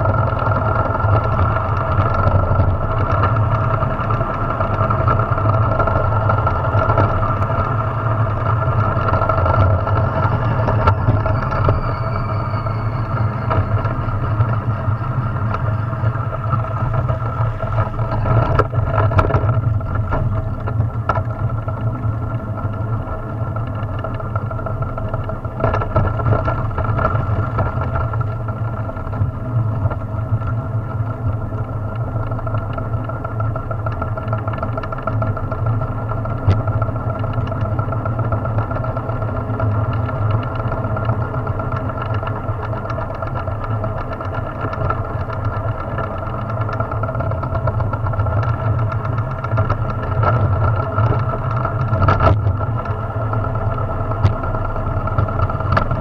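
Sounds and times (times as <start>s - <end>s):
wheels rumbling on asphalt: 0.0s - 56.0s.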